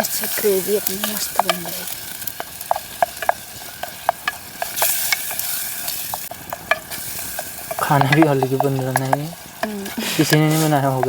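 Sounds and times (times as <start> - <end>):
food sizzling: 0.0 - 11.0
spoon scraping a pan: 0.0 - 11.0.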